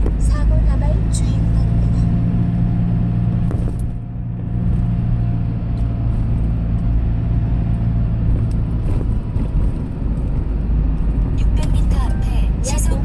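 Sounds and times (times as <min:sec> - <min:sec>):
vehicle engine drone and road noise: 0:00.0 - 0:13.0.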